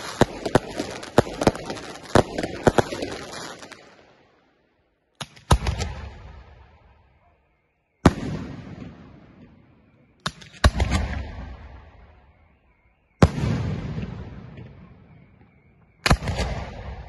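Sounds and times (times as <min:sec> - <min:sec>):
fireworks bursting with echo: 0:00.0 - 0:04.5, 0:05.1 - 0:07.3, 0:07.9 - 0:17.0.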